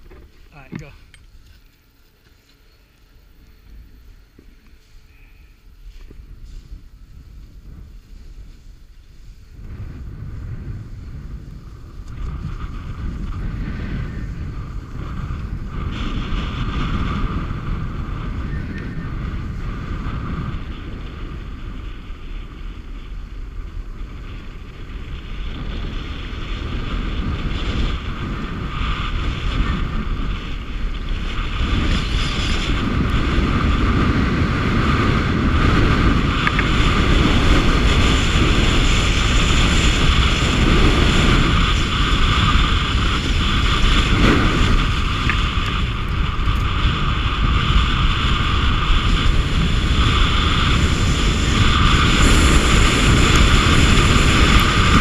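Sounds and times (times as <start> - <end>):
skis sliding over packed snow: 0.0 - 55.0
wind buffeting microphone: 0.0 - 55.0.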